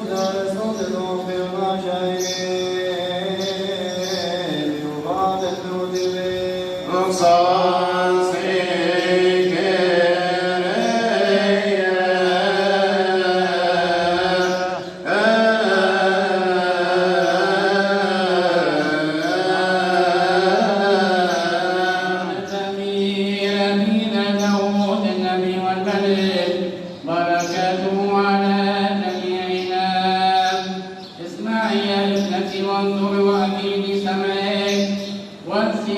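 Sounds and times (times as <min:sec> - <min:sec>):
man chanting solo: 0:00.0 - 0:35.9.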